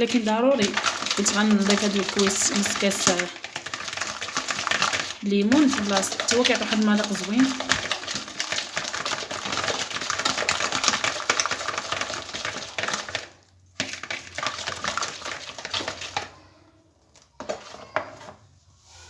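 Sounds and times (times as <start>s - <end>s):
beaters clattering against bowl: 0.0s - 16.3s.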